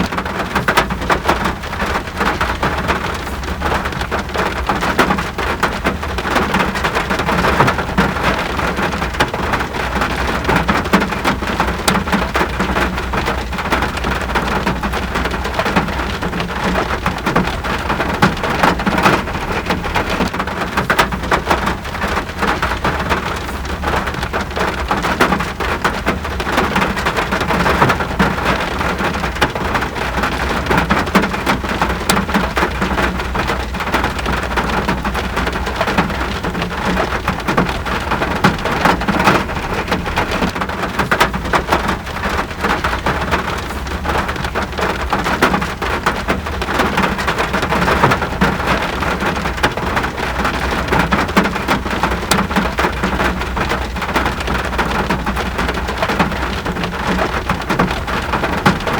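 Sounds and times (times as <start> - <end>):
steady rain pattering: 0.0 - 58.9.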